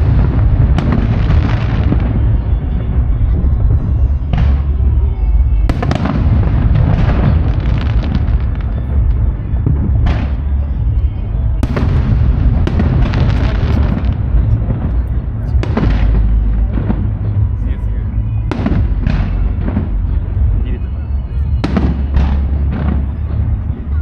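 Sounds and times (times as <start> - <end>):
low rumble of booms: 0.0 - 24.0.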